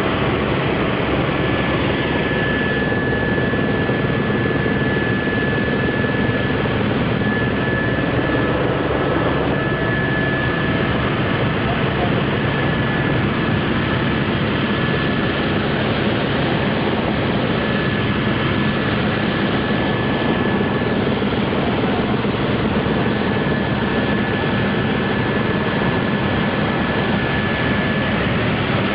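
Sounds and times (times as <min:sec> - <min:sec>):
helicopter engine and rotor: 0:00.0 - 0:28.9.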